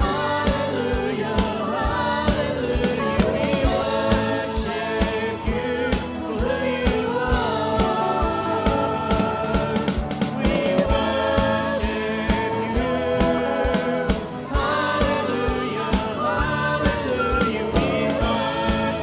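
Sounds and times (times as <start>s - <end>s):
instrumental accompaniment: 0.0s - 19.0s
people singing worship song: 0.0s - 19.0s
steady drum beat: 0.0s - 19.0s.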